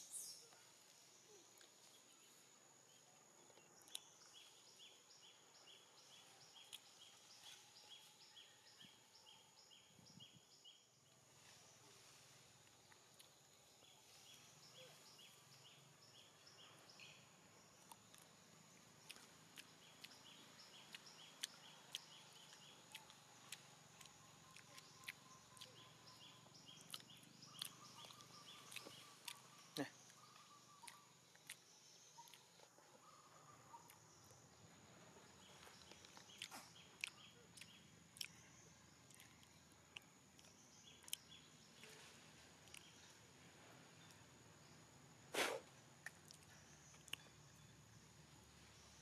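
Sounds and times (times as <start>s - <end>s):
bird chirping: 0.0s - 49.0s.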